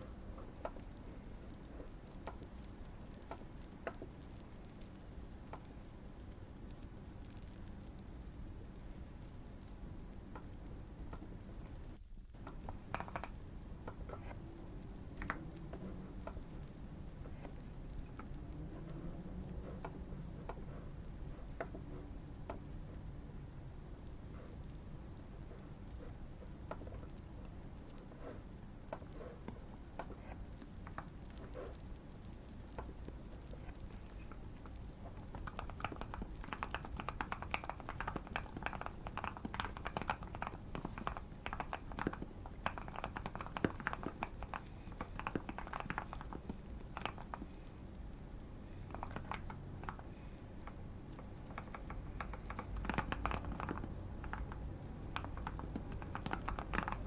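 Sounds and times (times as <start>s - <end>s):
fireplace crackling: 0.0s - 57.0s
clicky mechanical keyboard typing: 6.7s - 48.2s, 48.8s - 57.0s.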